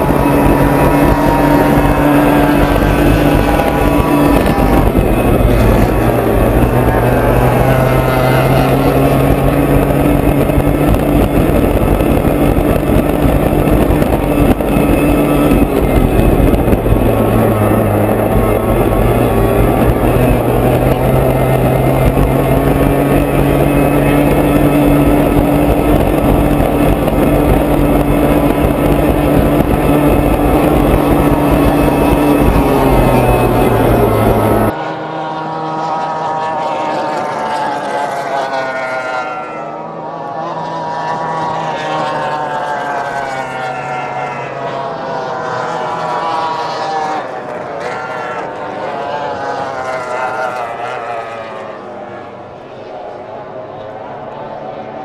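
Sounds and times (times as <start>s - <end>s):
powerboat engine running hard: 0.0s - 55.0s
rush of wind and water: 0.0s - 55.0s.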